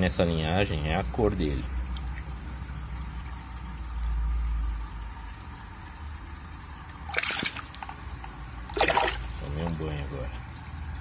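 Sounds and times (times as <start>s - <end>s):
low steady hum: 0.0s - 11.0s
water splashing in basin: 0.0s - 11.0s.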